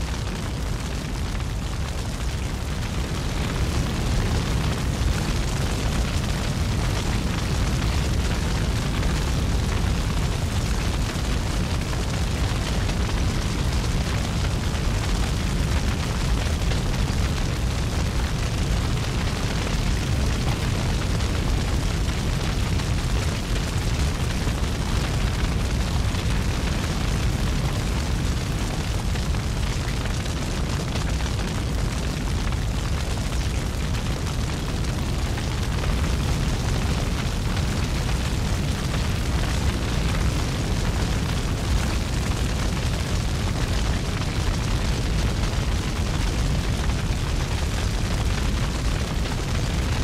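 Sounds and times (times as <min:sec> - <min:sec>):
wildfire roaring: 0:00.0 - 0:50.0.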